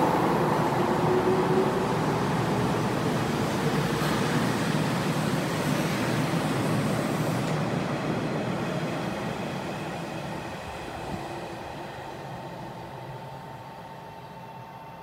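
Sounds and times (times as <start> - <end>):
electric train rolling past: 0.0 - 15.0.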